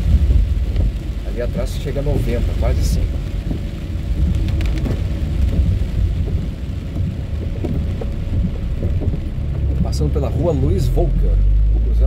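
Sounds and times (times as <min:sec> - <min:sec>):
rain hitting car: 0:00.0 - 0:12.0
tyres and engine rumbling: 0:00.0 - 0:12.0
windshield wiper sweeping: 0:00.0 - 0:12.0.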